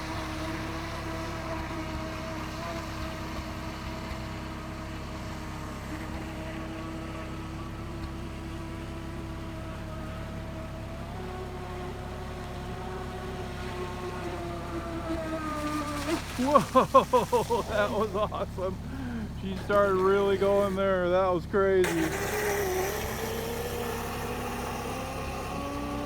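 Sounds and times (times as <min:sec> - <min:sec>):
model boat motor whining: 0:00.0 - 0:26.0
water and wind noise: 0:00.0 - 0:26.0.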